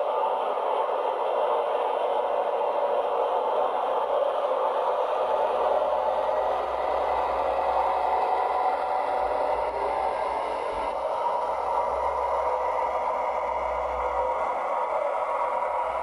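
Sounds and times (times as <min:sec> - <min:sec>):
model locomotive whirring: 0:00.0 - 0:16.0.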